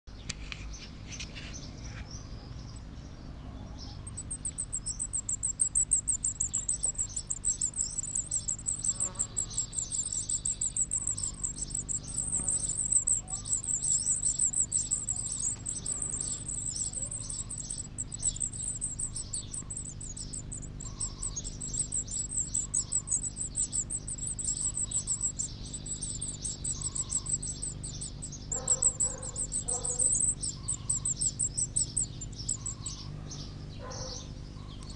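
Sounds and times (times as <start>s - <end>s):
nestlings begging calls: 0.7s - 34.9s.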